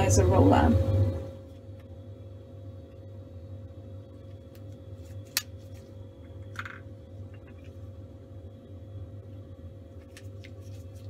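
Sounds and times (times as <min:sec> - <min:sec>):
air-flow blower humming: 0:00.0 - 0:11.0.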